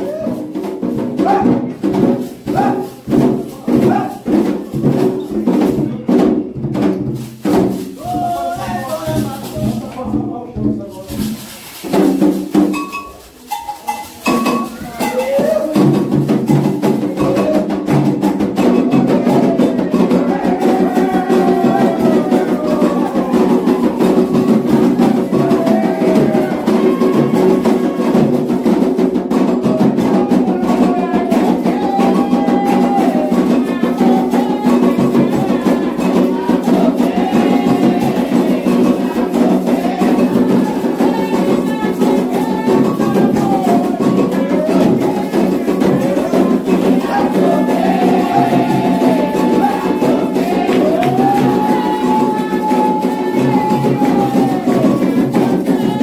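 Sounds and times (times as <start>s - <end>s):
people singing a chant: 0.0s - 6.3s, 7.7s - 9.8s, 14.2s - 56.0s
hand drum percussion: 0.0s - 56.0s.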